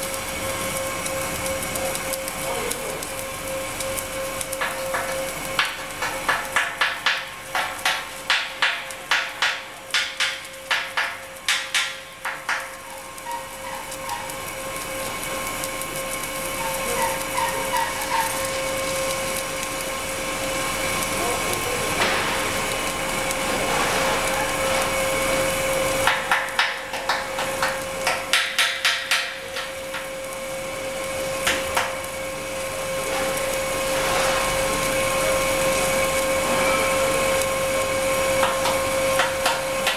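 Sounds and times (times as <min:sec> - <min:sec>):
welding machine clicks: 0:00.0 - 0:19.9, 0:20.9 - 0:30.4, 0:31.0 - 0:32.2, 0:38.3 - 0:39.9
machine whine: 0:00.0 - 0:39.9
welding arc hiss: 0:00.0 - 0:39.9.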